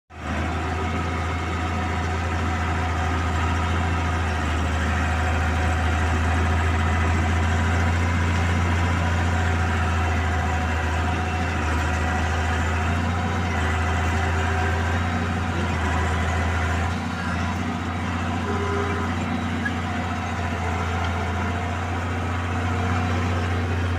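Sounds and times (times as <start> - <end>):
bulldozer diesel engine running: 0.1 - 23.9.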